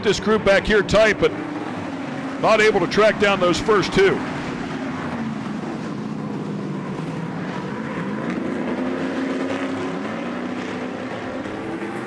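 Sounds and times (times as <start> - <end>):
race truck engines revving: 0.0 - 12.0.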